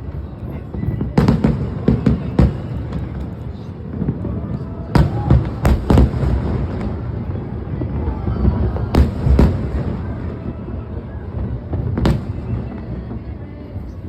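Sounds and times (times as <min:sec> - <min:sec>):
fireworks bursting with sharp bangs: 0:00.0 - 0:14.0
rumble of fireworks bursts: 0:00.0 - 0:14.0.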